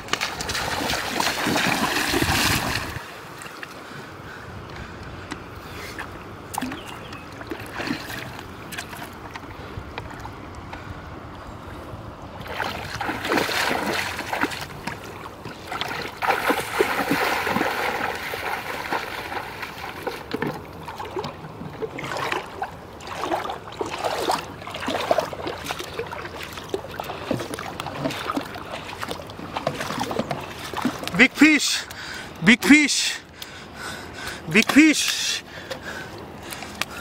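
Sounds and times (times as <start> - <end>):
river water splashing: 0.0 - 37.0.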